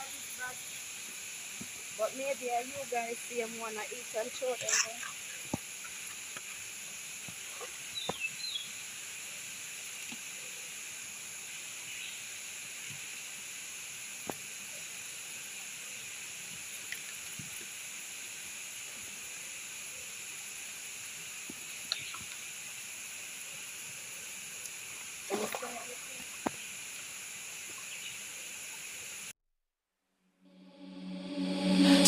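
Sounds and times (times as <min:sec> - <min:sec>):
river ambience: 0:00.0 - 0:29.3.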